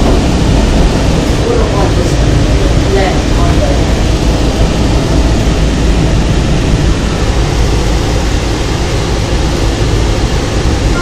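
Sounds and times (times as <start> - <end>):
tram car rumbling: 0.0 - 11.0.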